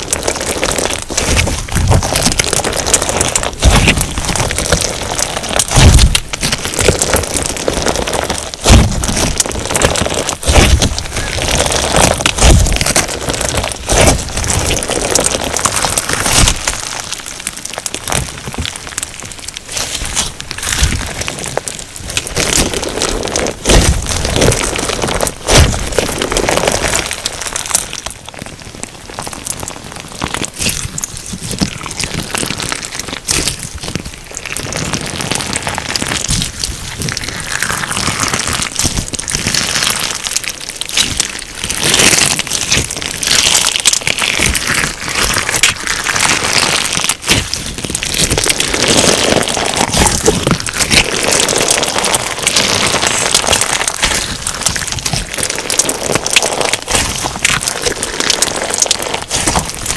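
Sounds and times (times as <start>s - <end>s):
crunchy slime crackling: 0.0s - 59.9s.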